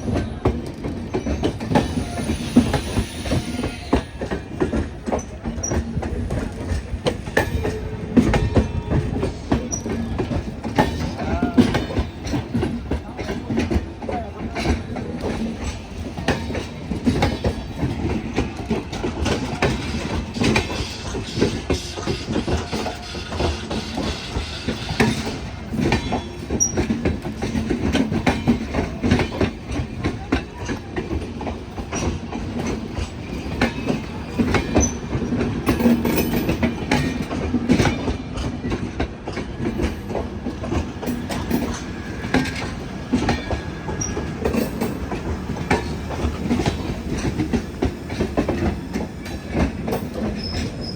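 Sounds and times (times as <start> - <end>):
train rumble: 0.0 - 50.9.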